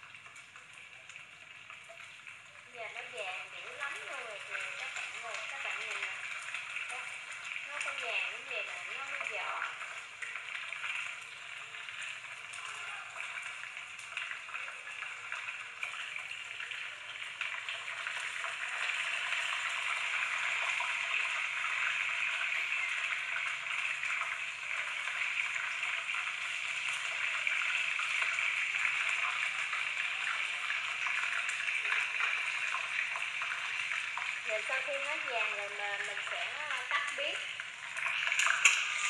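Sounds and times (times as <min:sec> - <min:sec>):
chicken wings deep-frying in oil: 0:00.0 - 0:39.0.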